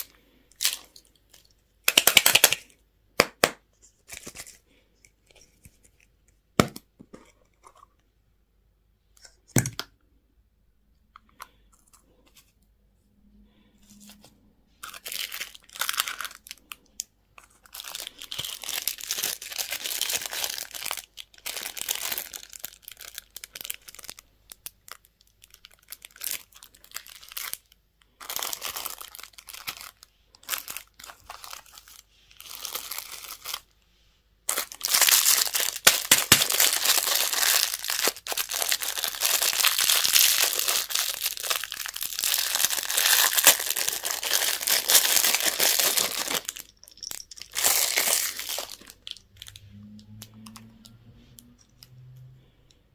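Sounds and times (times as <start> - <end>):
candy wrappers crinkling and tearing: 0.0 - 6.1, 14.8 - 33.8, 34.5 - 52.2.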